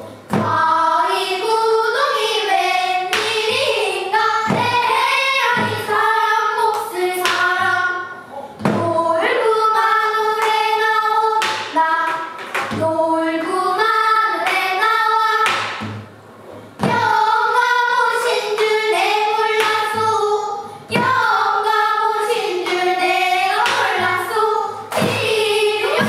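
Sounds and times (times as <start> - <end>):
children's chorus singing: 0.3 - 15.8, 16.8 - 26.0.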